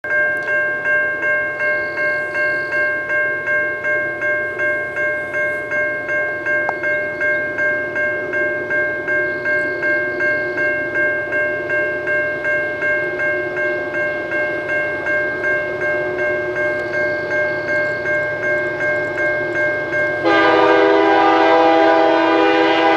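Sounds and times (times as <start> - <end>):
level crossing bell ringing: 0.1 - 22.8.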